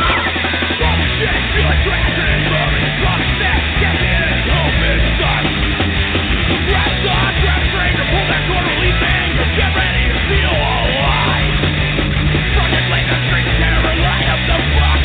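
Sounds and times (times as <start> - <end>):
fast punk rock music: 0.0 - 15.0.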